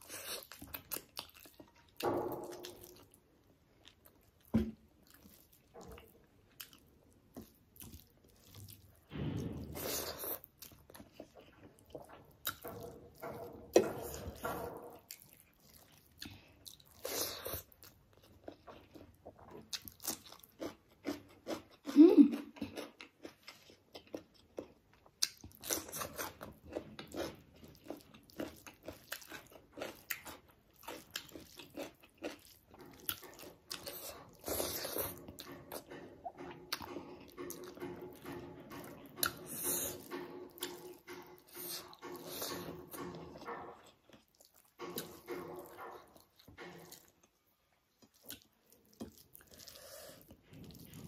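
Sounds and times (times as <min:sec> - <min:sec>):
chewing with wet mouth clicks: 0:00.0 - 0:09.0, 0:15.0 - 0:51.0.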